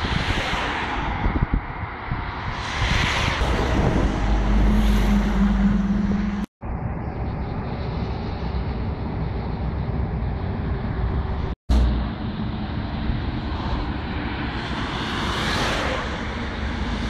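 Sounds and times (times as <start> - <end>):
roadside traffic noise: 0.0 - 17.0
wind rumble on microphone: 0.0 - 17.0.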